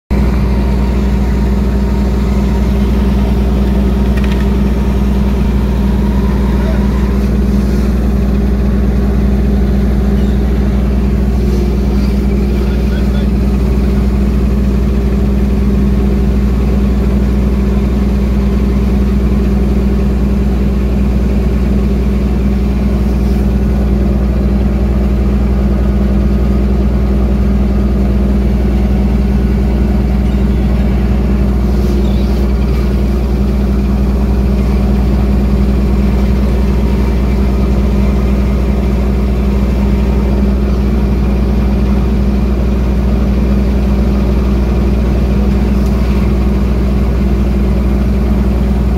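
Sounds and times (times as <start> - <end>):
boat engine droning: 0.1 - 48.9.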